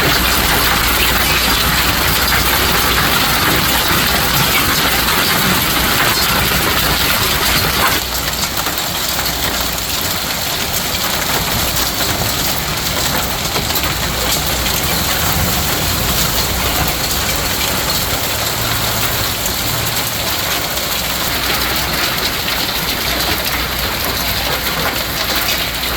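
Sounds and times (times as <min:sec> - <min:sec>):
hail and heavy rain pelting: 0:00.0 - 0:25.9.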